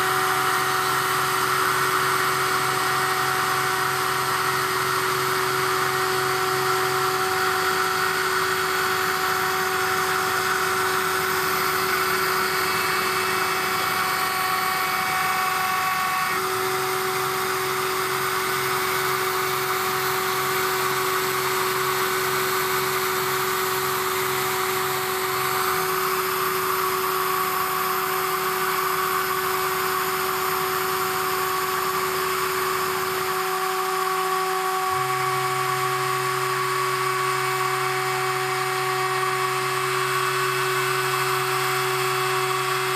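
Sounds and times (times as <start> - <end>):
pulsing low motor hum: 0.0 - 42.9
router spindle high whine: 0.0 - 42.9.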